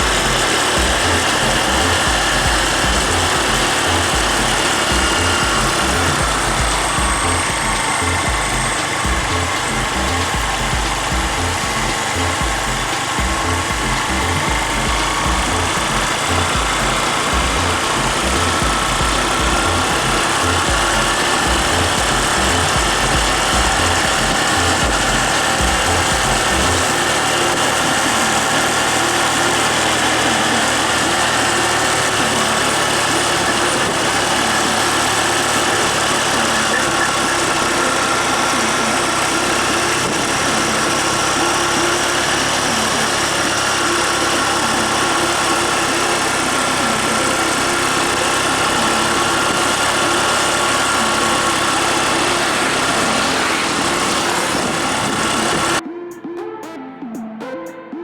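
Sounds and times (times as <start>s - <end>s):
large vehicle engine running: 0.0s - 55.8s.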